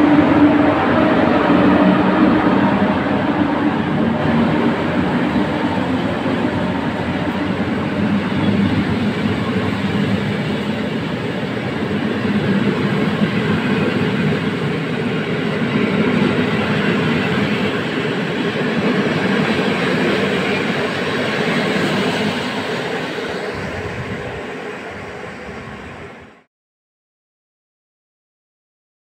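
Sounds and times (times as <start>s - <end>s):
train wheels on rails: 0.0s - 26.3s.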